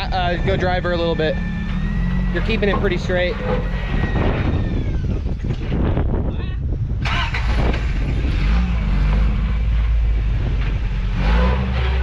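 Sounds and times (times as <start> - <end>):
truck engine under load: 0.0 - 6.2, 6.8 - 12.0.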